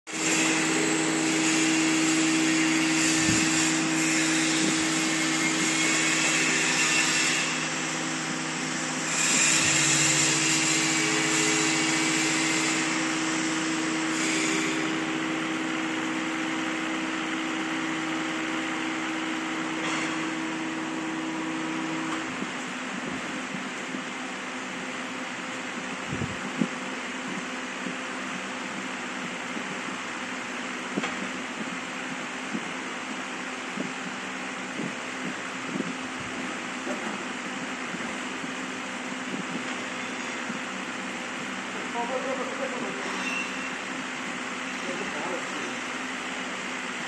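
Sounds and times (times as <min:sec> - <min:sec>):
industrial mixer motors humming: 0:00.1 - 0:47.0.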